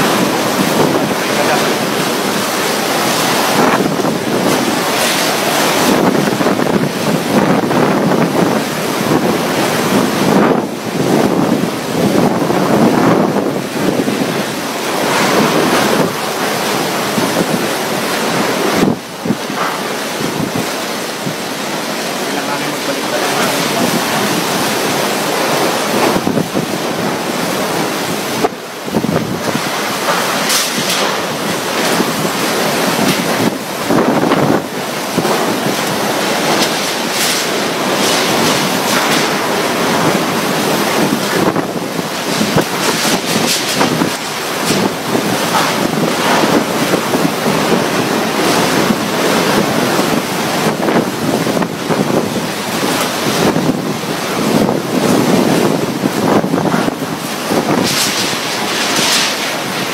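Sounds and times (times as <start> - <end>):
strong gusting wind on microphone: 0.0 - 59.9.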